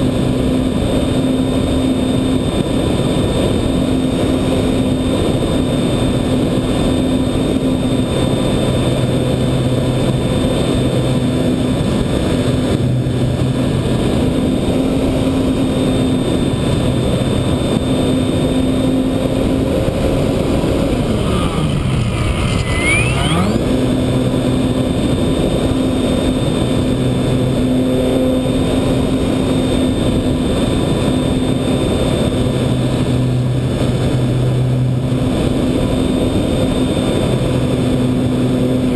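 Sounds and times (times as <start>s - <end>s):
electric motor and propeller drone: 0.0s - 38.9s
wind rushing over microphone: 0.0s - 38.9s.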